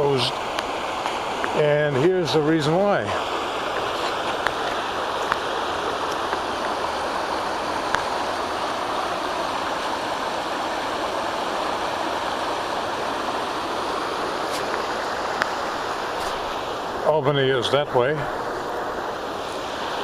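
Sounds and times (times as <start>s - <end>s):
floodwater rushing across road: 0.0s - 20.0s.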